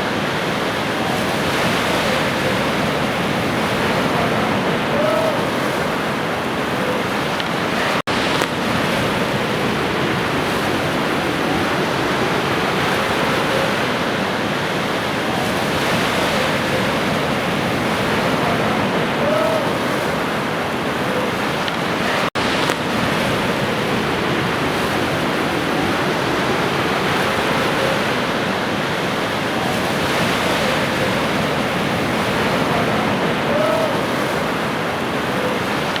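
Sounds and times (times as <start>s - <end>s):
sea waves washing ashore: 0.0s - 36.0s.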